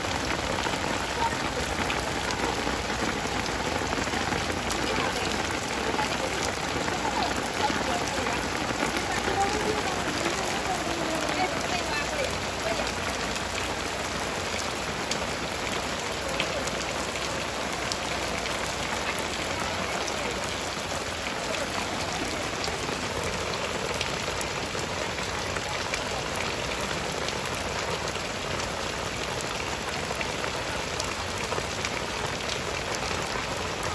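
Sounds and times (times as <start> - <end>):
rain on muddy ground: 0.0 - 33.9
sharp ticks of raindrops: 0.0 - 33.9.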